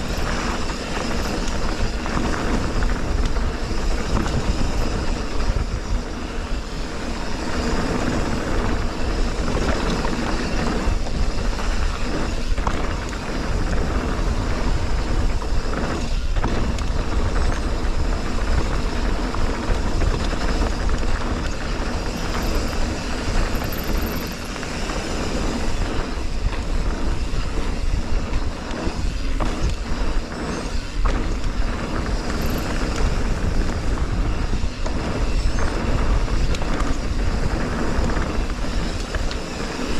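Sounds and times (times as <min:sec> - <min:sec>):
bike tyre noise: 0:00.0 - 0:39.9
wind rush on microphone: 0:00.0 - 0:39.9.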